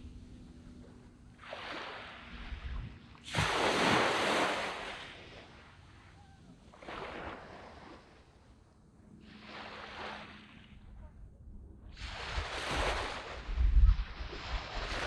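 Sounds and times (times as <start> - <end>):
small waves breaking on sand: 0.8 - 11.0, 11.9 - 15.0.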